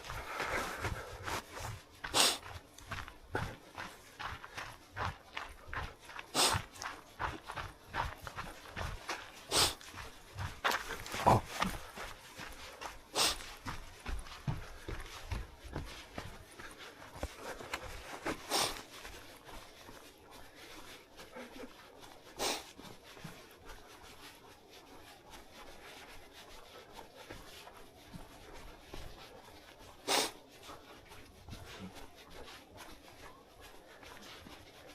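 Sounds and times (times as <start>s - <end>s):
footsteps on dirt trail: 0.0s - 34.9s.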